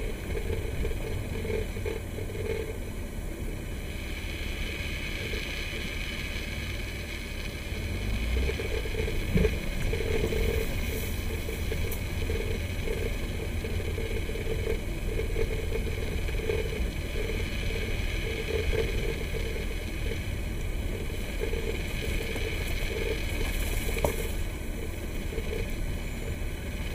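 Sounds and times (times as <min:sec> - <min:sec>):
engine and tyres rumbling: 0:00.0 - 0:26.9.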